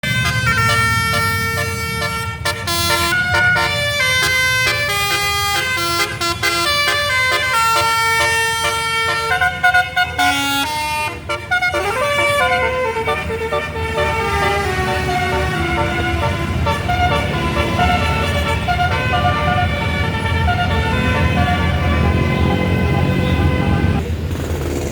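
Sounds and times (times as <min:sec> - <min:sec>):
bus horn playing a rapid tune: 0:00.0 - 0:24.0
bus engine running: 0:00.0 - 0:24.9.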